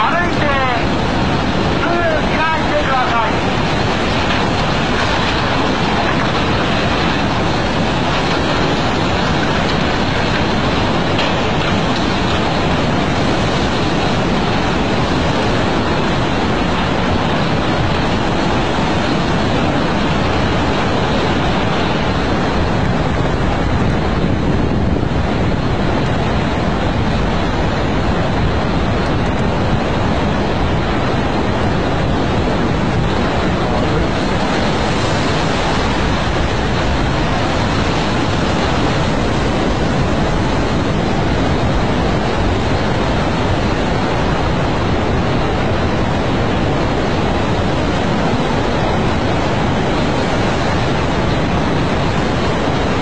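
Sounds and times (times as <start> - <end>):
floodwater rushing: 0.0 - 53.0
wind buffeting microphone: 0.0 - 53.0.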